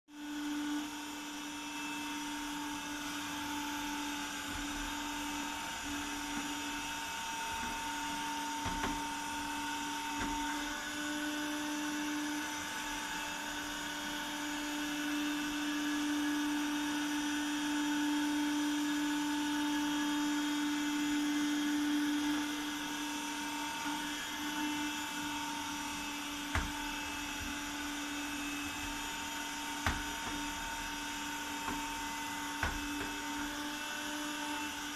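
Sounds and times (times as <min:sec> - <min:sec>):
suction fan motor whining: 0:00.1 - 0:34.9.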